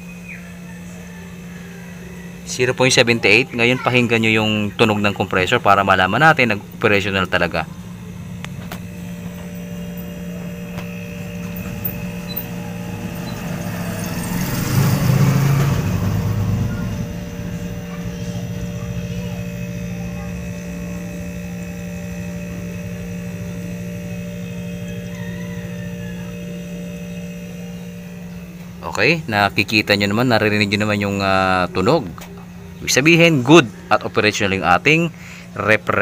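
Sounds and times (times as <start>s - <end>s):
refrigerator compressor humming: 0.0s - 36.0s.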